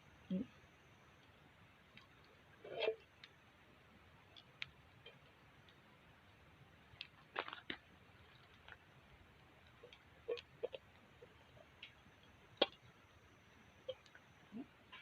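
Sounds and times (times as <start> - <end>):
faint clicks and pops: 0.2 - 15.0.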